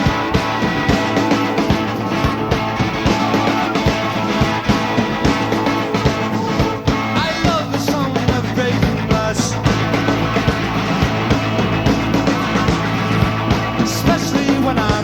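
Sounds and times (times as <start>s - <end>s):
bass guitar: 0.0s - 15.0s
drums: 0.0s - 15.0s
electric guitars: 0.0s - 15.0s.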